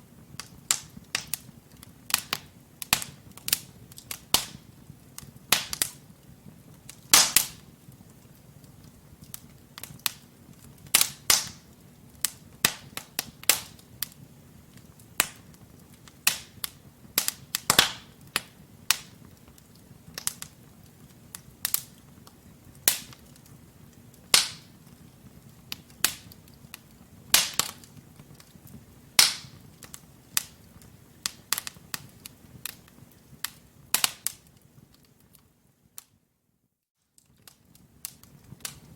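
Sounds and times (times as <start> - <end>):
low hiss of flames: 0.0 - 36.1
wood fire popping and snapping: 0.0 - 36.2, 37.0 - 38.9.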